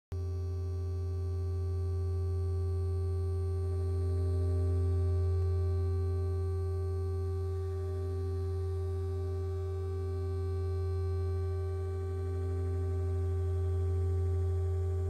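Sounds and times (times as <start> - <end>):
low electronic hum: 0.1 - 15.0
faint held tone: 0.2 - 15.0.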